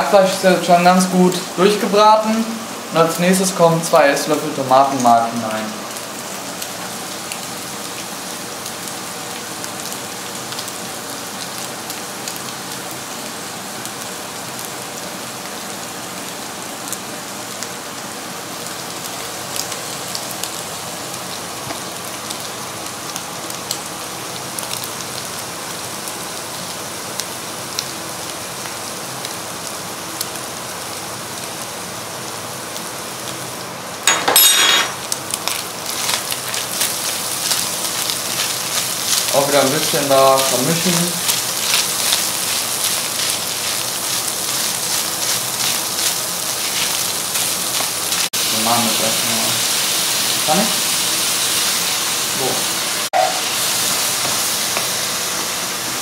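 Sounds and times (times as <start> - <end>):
meat and onions sizzling in a pan: 0.0 - 34.1, 35.0 - 56.0.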